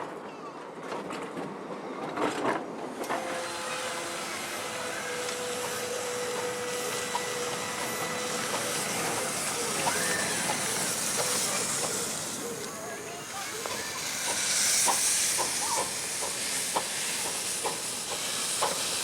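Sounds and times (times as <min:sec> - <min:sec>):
steam locomotive hissing steam: 0:02.9 - 0:19.0.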